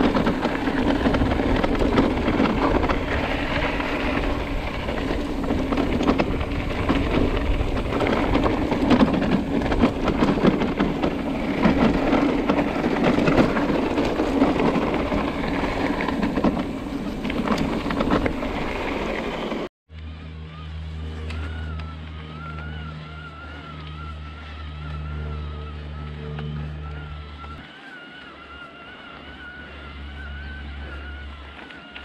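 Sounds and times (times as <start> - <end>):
bike rattling: 0.0 - 32.0
bike tyres crunching on gravel: 0.0 - 32.0.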